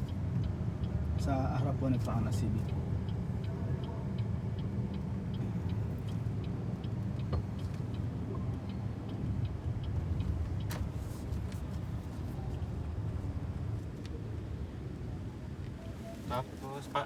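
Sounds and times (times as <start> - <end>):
turn signal ticking: 0.0 - 16.0
road and tyre rumble: 0.0 - 17.0.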